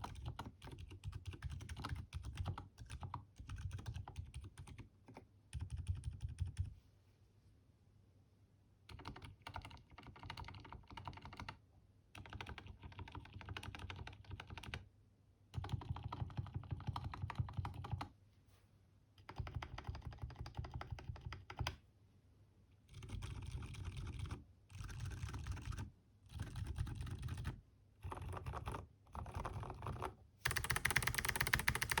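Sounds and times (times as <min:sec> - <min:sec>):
typing on mechanical keyboard: 0:00.0 - 0:06.7, 0:08.9 - 0:14.9, 0:15.5 - 0:18.1, 0:19.2 - 0:21.8, 0:22.9 - 0:32.0.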